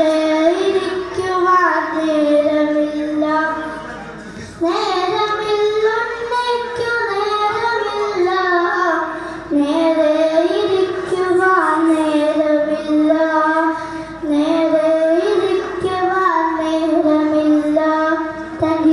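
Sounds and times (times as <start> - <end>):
boy singing into a microphone: 0.0 - 18.9.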